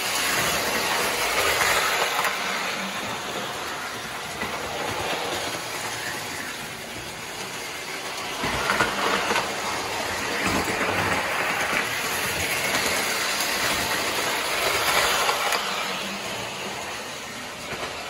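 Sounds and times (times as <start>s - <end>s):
toy train rattling on metal track: 0.0s - 18.0s.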